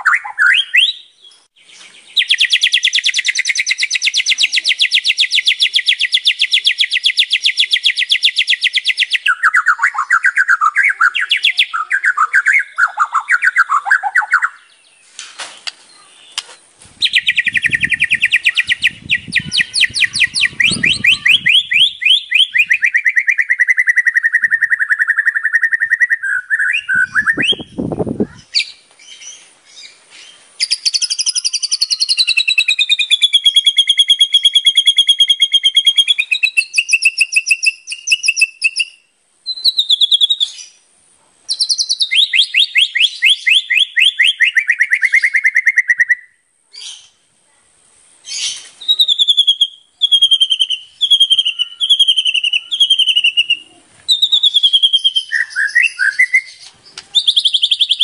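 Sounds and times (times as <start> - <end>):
bird singing trills: 0.0 - 40.8, 41.5 - 47.1, 48.3 - 58.0.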